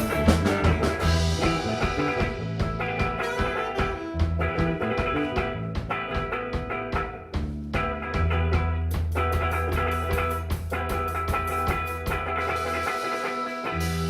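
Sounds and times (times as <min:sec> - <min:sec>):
bass guitar: 0:00.0 - 0:14.0
drum kit beat: 0:00.0 - 0:14.0
electric guitar: 0:00.0 - 0:14.0.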